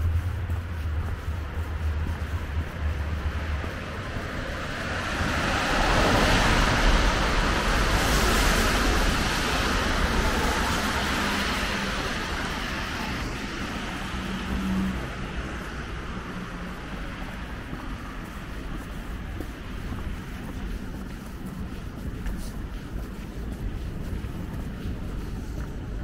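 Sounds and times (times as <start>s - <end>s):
car tyres hissing on wet street: 0.0s - 26.0s.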